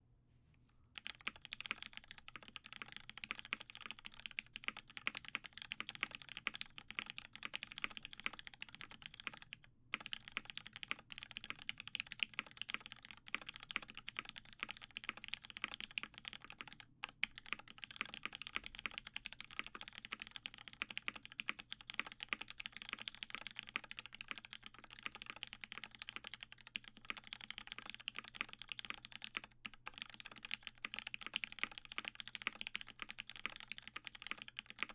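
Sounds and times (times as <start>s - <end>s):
mechanical keyboard typing: 1.0s - 34.9s.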